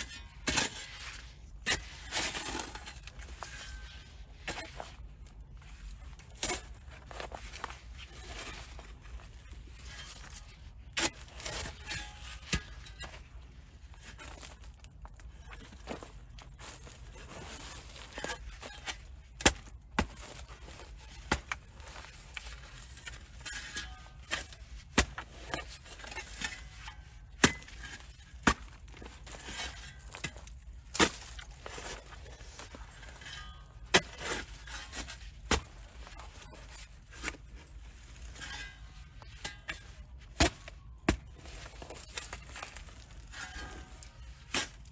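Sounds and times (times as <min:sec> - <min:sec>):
digging tool scraping soil: 0:00.4 - 0:05.1, 0:05.8 - 0:13.3, 0:14.0 - 0:44.9.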